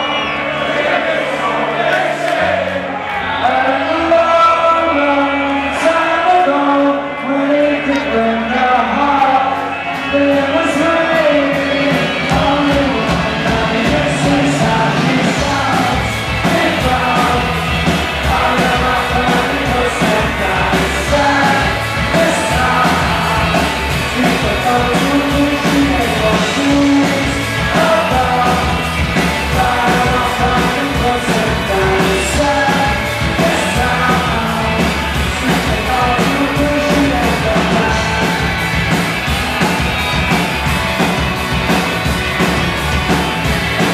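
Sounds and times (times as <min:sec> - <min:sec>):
man singing lead vocal: 0:00.0 - 0:38.6
live rock band playing: 0:00.0 - 0:43.9.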